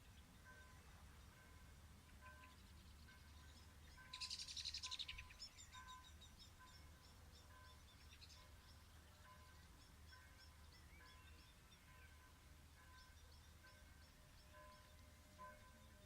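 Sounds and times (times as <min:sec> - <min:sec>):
distant church bells: 0:00.0 - 0:16.0
songbird singing: 0:00.0 - 0:16.0.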